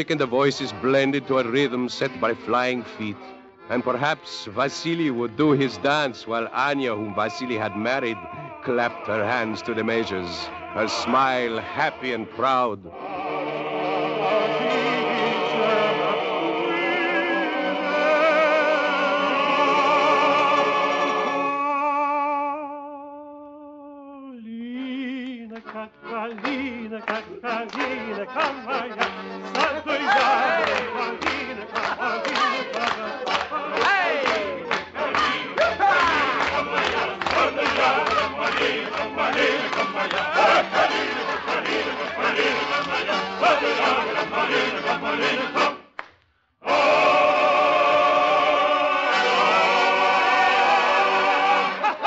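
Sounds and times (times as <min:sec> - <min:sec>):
music with singing: 0:00.0 - 0:23.2, 0:23.9 - 0:45.9
person singing lively song: 0:00.0 - 0:45.8.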